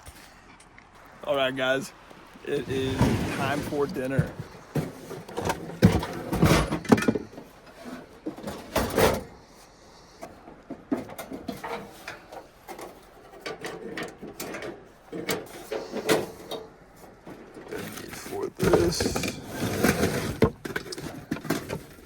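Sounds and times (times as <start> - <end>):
camping gear clunking and rattling: 0.0 - 22.0.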